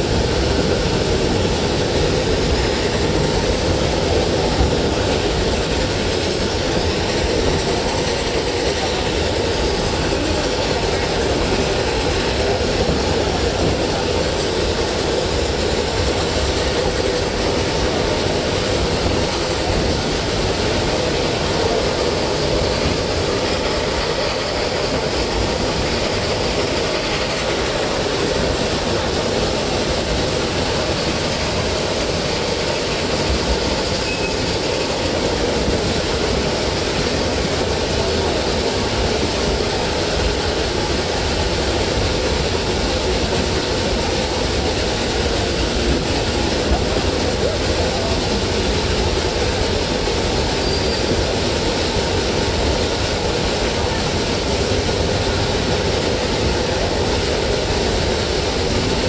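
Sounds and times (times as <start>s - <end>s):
steam train rumble and hiss: 0.0s - 59.0s.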